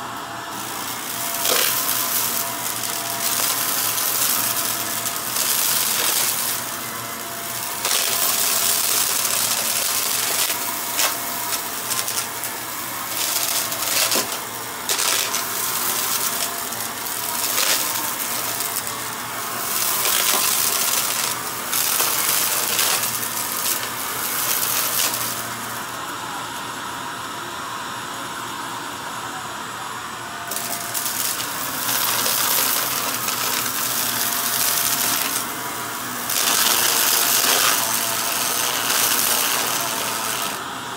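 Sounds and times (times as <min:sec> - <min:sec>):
vacuum cleaner running on carpet: 0:00.0 - 0:40.9.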